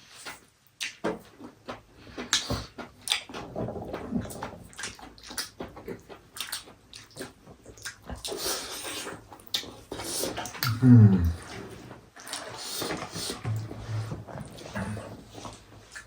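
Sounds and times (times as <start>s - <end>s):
chewing and lip smacks: 0.1s - 11.6s, 14.4s - 16.0s
wet slurping: 2.1s - 16.0s.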